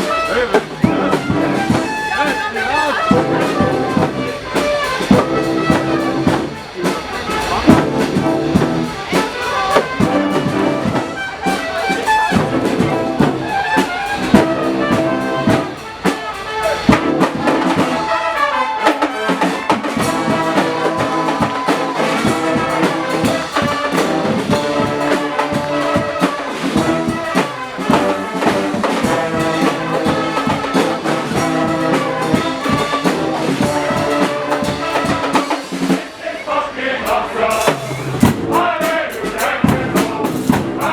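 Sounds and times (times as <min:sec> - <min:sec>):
brass blaring: 0:00.0 - 0:40.9
steady drum beat: 0:00.0 - 0:40.9.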